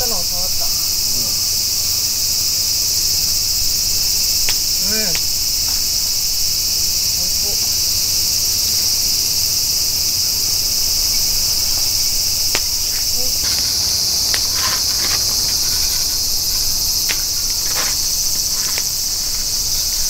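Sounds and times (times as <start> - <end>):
insect chorus buzzing: 0.0 - 20.0.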